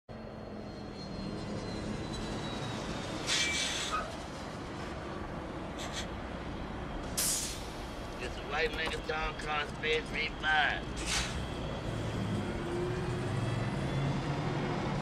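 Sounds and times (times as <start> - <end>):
bus engine rumbling: 0.1 - 15.0.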